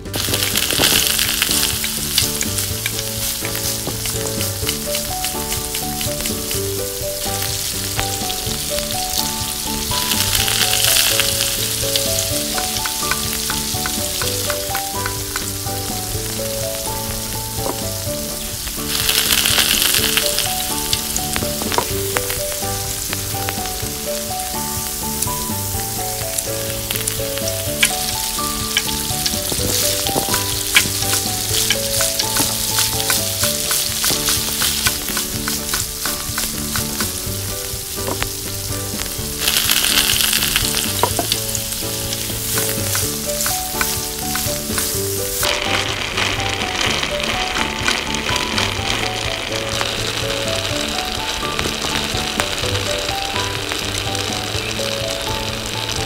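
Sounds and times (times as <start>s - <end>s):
light melodic background music: 0.0s - 56.0s
oil sizzling and spitting: 0.0s - 56.0s.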